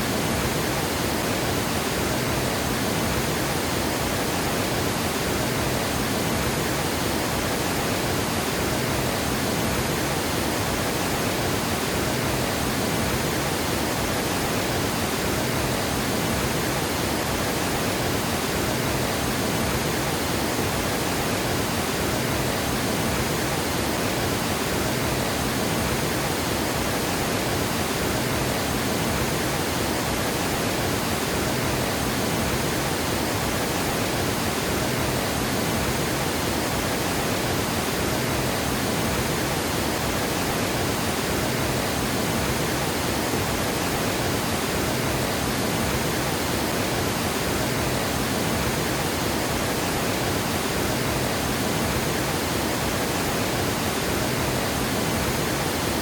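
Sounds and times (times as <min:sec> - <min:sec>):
water gushing over a dam: 0:00.0 - 0:56.0.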